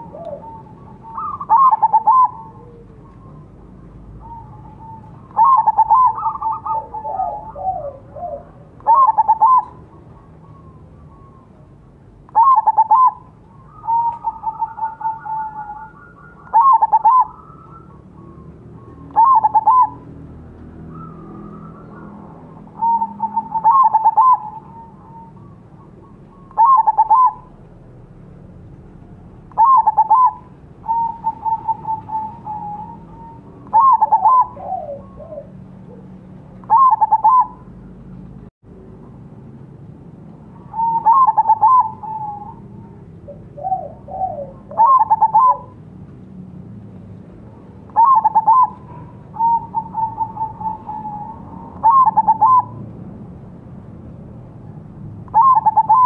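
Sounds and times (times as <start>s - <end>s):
dove cooing: 0.0s - 11.7s, 12.3s - 27.6s, 29.5s - 38.0s, 40.6s - 45.8s, 47.9s - 52.9s, 55.3s - 56.0s.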